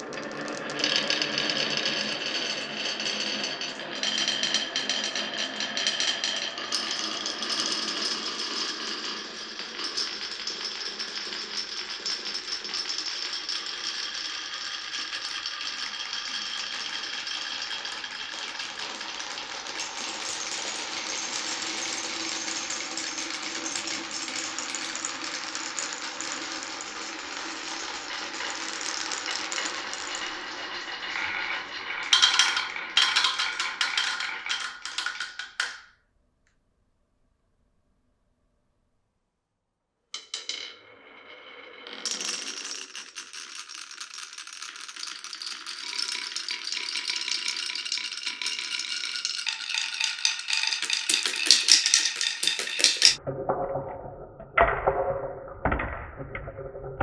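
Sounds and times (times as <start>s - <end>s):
marbles rattling on wooden run: 0.0s - 35.9s, 40.2s - 40.9s, 41.7s - 53.2s
sharp marble clacks: 0.0s - 35.9s, 42.0s - 53.2s.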